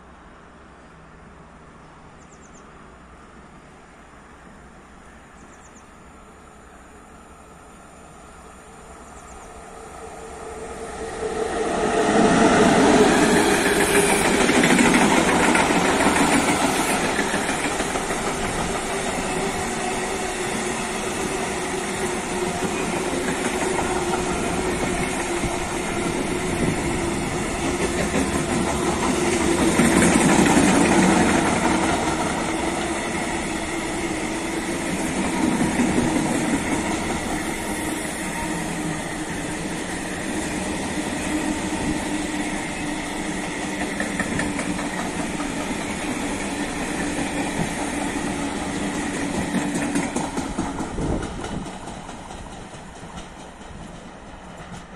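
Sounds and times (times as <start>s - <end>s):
locomotive whine: 6.0s - 52.3s
freight train wheels rumbling: 6.8s - 54.9s.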